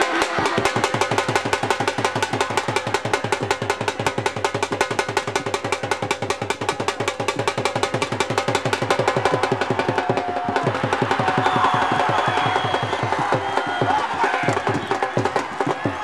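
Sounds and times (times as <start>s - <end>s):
fast dhol drumming: 0.0s - 16.0s.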